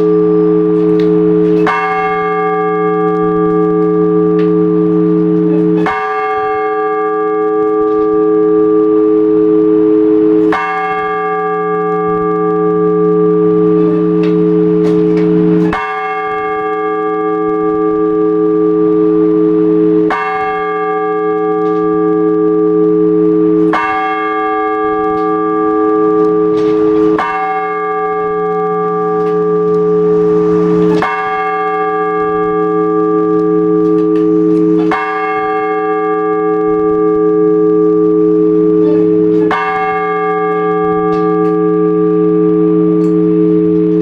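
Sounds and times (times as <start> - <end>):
church bell tolling slowly: 0.0 - 44.0.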